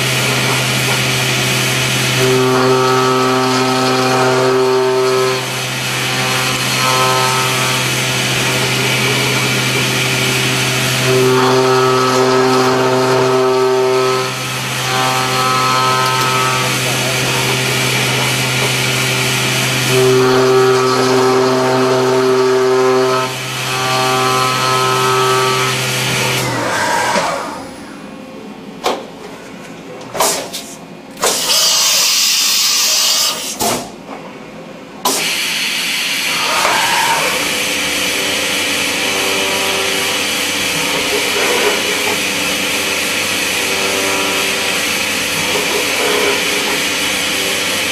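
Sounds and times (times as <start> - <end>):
machine spindle whine and cutting hiss: 0.0 - 28.0, 31.2 - 33.6, 35.1 - 47.9.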